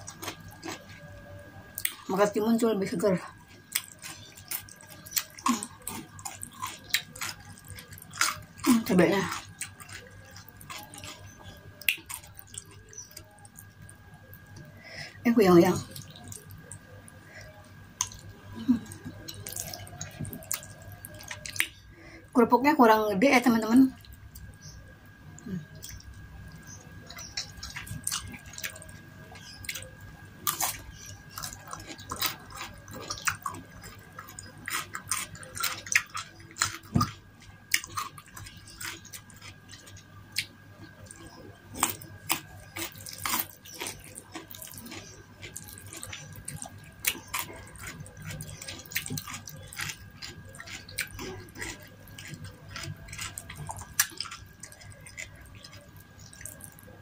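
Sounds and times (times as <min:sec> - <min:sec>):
wet chewing and smacking: 0:00.0 - 0:14.7, 0:15.5 - 0:21.9, 0:23.4 - 0:57.0.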